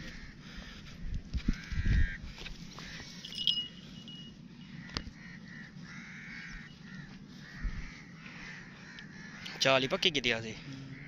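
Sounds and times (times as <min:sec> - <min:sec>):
low outdoor background: 0:00.0 - 0:11.0
bird calls: 0:01.4 - 0:11.0.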